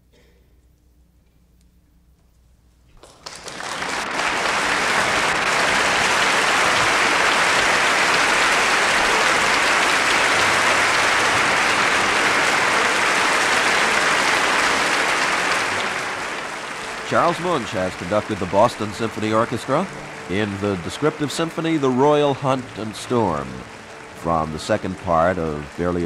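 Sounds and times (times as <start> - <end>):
audience applauding: 3.0 - 26.0.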